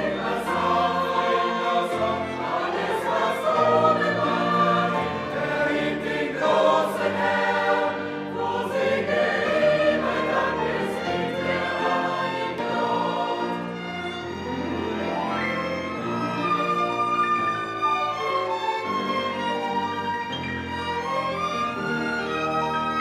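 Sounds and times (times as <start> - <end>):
choir singing sustained chords: 0.0 - 23.0
orchestral accompaniment: 0.0 - 23.0.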